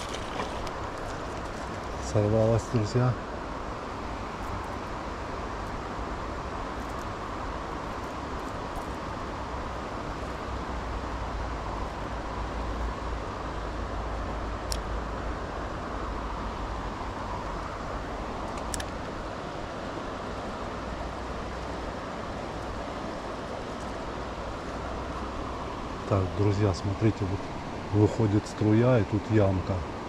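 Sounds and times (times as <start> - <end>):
river current rushing: 0.0 - 30.0.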